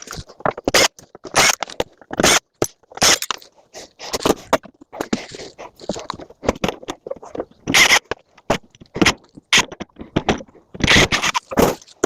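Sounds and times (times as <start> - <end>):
wiring being cut and pulled: 0.0 - 12.0.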